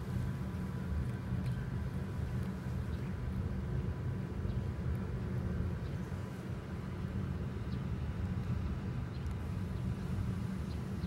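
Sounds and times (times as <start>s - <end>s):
steady low outdoor rumble: 0.0s - 11.0s.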